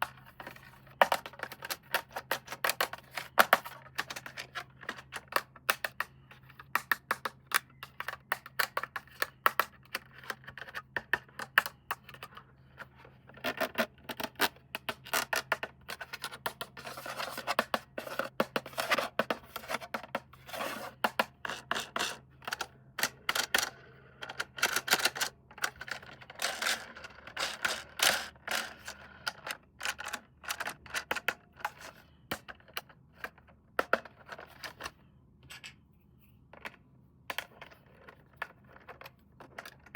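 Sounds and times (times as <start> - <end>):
plastic parts clicking and scratching: 0.0 - 35.0, 36.5 - 39.9.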